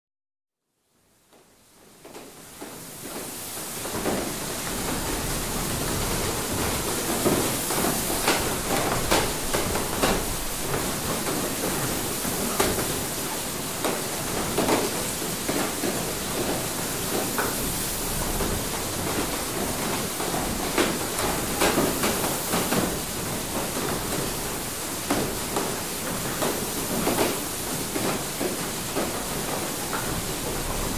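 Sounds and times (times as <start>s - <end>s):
running water rushing: 3.3s - 30.9s
mill machinery knocking: 3.8s - 30.9s.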